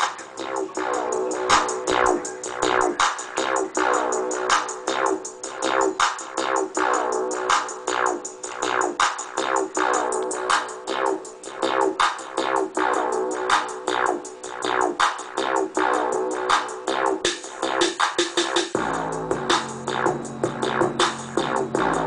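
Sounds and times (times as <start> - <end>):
electronic music with drum machine: 0.0 - 22.0
deep bass line: 0.3 - 17.8, 18.8 - 22.0.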